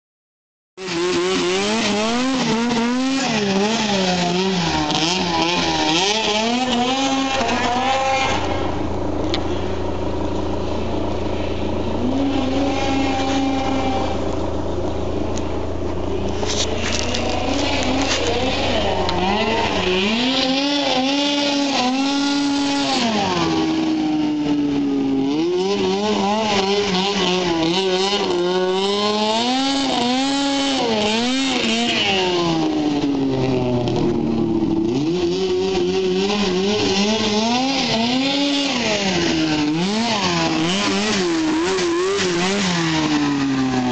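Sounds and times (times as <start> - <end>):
engine misfiring: 0.8 - 43.9
snowmobile engine revving: 0.8 - 43.9.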